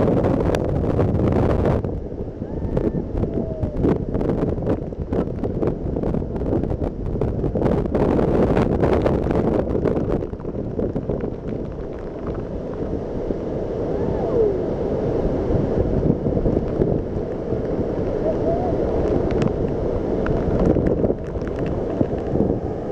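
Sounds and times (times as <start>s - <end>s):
waterfall roaring: 0.0s - 22.9s
wind buffeting microphone: 0.0s - 22.9s.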